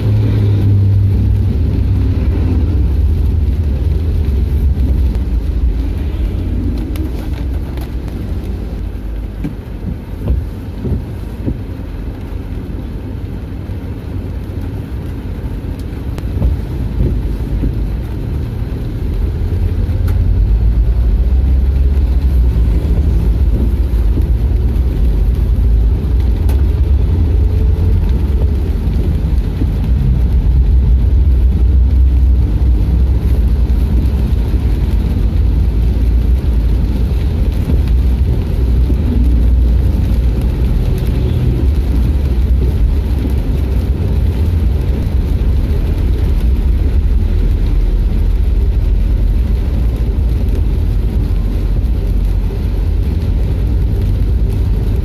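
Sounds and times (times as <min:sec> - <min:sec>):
vehicle engine and tyre rumble: 0:00.0 - 0:55.0.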